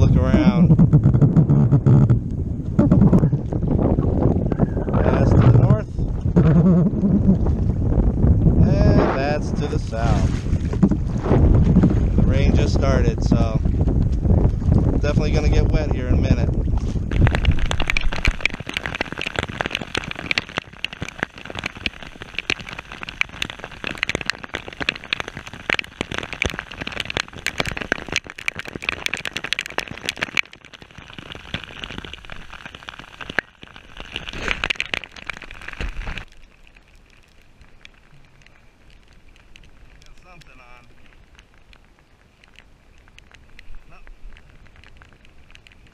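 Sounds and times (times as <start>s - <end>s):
rain falling on water: 0.0s - 45.9s.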